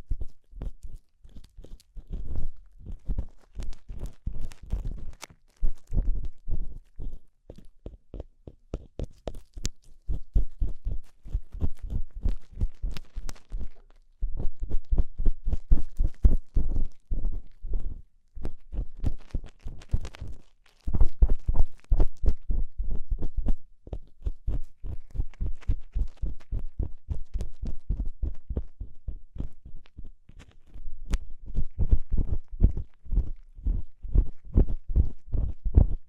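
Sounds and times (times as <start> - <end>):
scratching and rubbing on microphone: 0.0 - 36.0.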